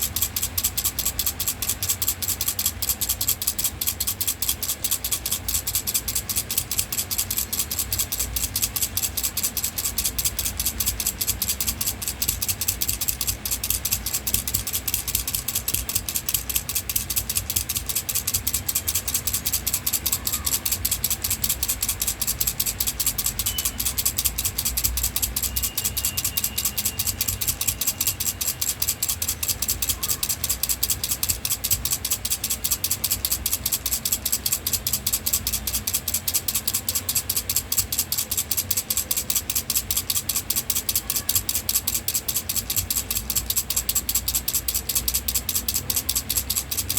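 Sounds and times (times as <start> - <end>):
baby rattle shaking: 0.0 - 46.9.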